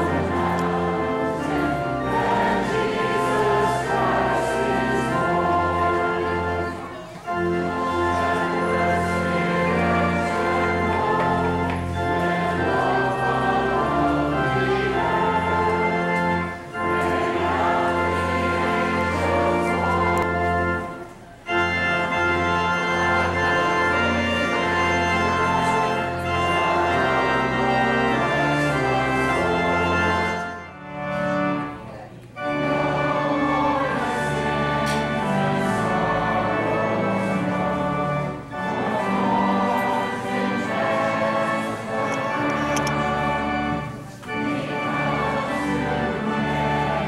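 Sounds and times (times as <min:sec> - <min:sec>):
church organ chords: 0:00.0 - 0:47.0.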